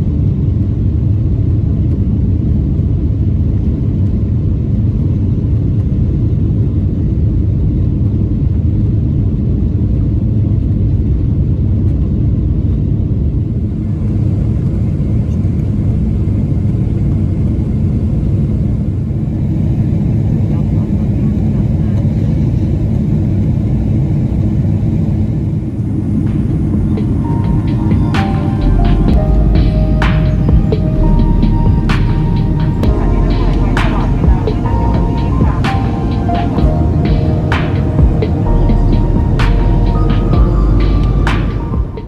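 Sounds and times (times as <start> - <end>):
jet engine rumble in cabin: 0.0 - 42.0.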